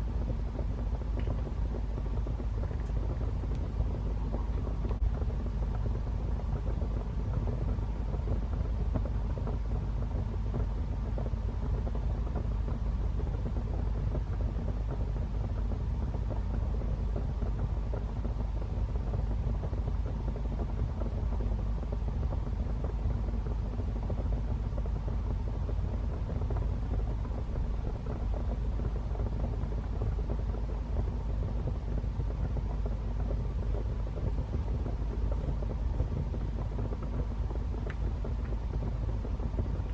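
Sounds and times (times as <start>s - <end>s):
wood fire burning and crackling: 0.0s - 39.9s.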